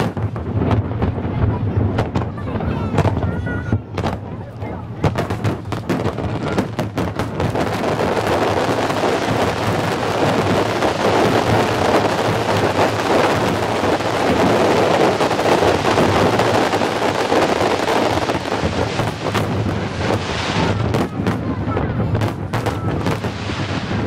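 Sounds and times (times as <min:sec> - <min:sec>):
firework explosions and crackle: 0:00.0 - 0:24.0.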